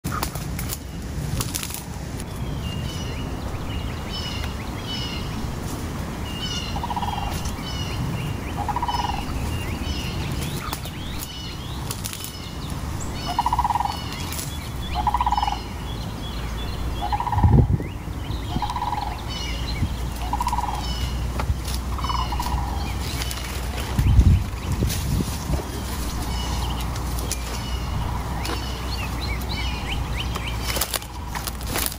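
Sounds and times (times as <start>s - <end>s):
low rumble: 1.9s - 31.9s
low bird call: 2.2s - 31.9s
high bird chirping: 2.3s - 31.7s.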